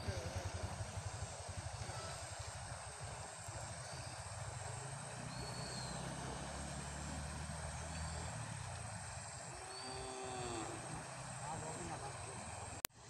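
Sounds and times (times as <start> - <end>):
constant hiss: 0.0 - 13.0
engine humming: 0.0 - 13.0.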